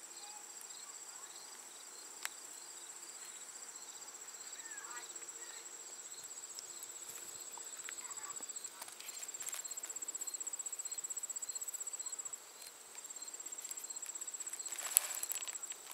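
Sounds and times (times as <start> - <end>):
faint insect chirps: 0.0 - 15.9
high-pitched insect trill: 0.0 - 15.9.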